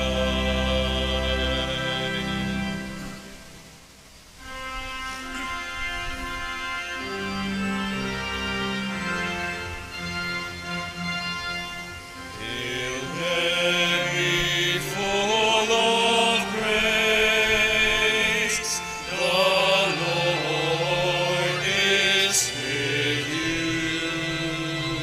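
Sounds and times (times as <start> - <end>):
hymn singing with vibrato: 0.0 - 3.8, 7.0 - 25.0
organ playing: 0.0 - 3.8, 4.4 - 25.0.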